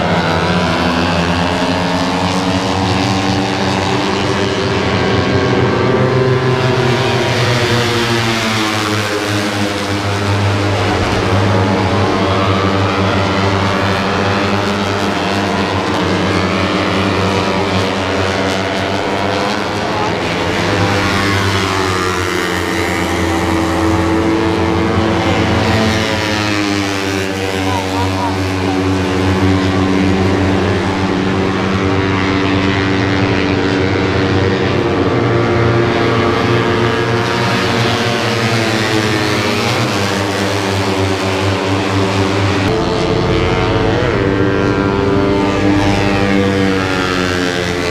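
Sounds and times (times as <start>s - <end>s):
racing motorcycles revving: 0.0s - 47.9s.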